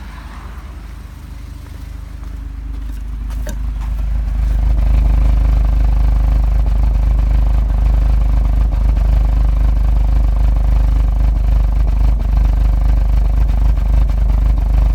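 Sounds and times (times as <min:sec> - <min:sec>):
car engine idling roughly: 0:00.0 - 0:14.9.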